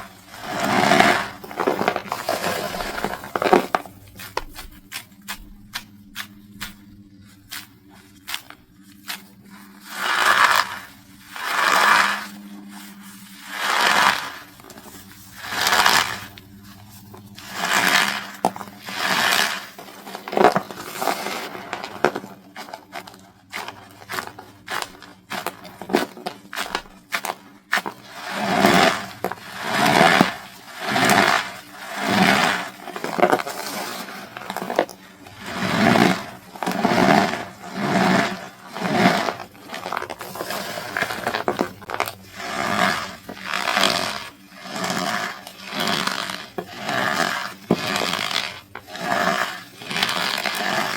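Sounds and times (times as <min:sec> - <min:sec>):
cornstarch crunching by hand: 0:00.0 - 0:50.9.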